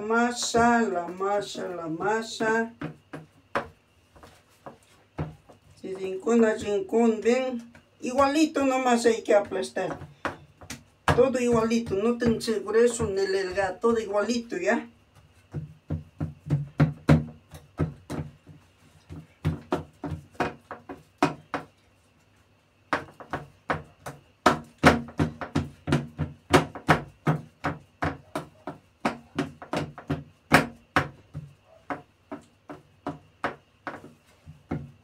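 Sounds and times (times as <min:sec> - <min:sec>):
hands patting dough in metal tray: 0:00.0 - 0:22.2, 0:22.8 - 0:35.0.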